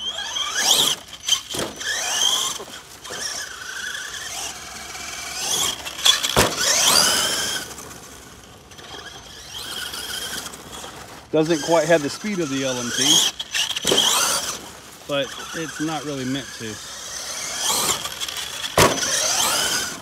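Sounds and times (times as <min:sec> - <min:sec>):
electric toy truck motor whining: 0:00.0 - 0:20.0.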